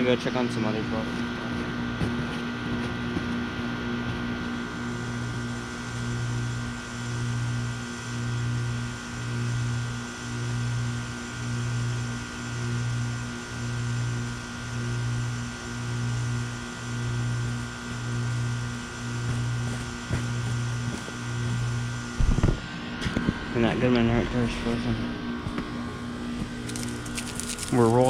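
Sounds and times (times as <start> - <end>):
heat pump droning hum: 0.0 - 28.0.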